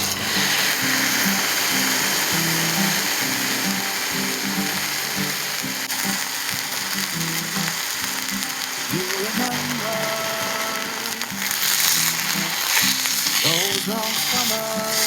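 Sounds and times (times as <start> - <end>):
low stepped instrumental melody: 0.0 - 14.1
steady high hiss: 0.0 - 15.0.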